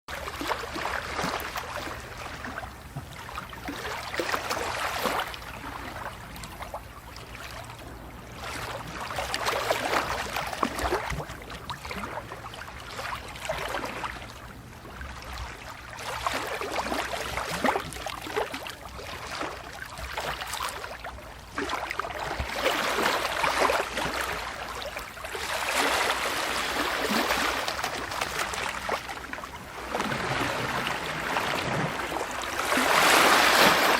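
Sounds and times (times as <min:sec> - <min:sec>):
water lapping and splashing: 0:00.1 - 0:33.9.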